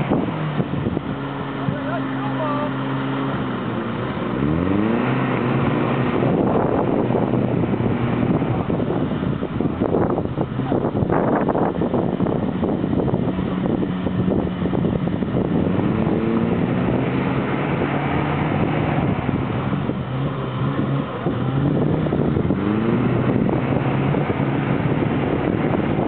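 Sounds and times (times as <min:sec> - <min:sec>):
off-road vehicle engine revving: 0:00.0 - 0:26.0
wind buffeting microphone: 0:00.0 - 0:26.0.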